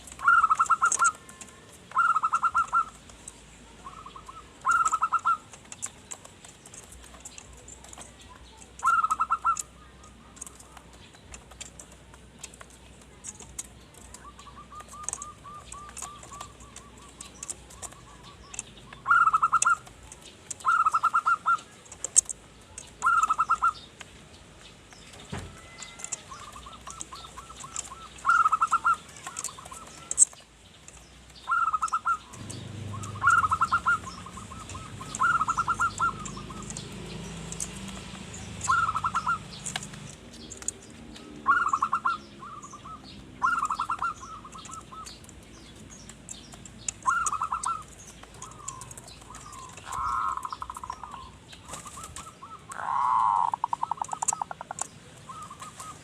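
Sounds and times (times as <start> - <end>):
dove cooing: 0.0 - 11.9, 13.2 - 23.9, 25.4 - 30.4, 31.4 - 45.3, 46.9 - 56.0.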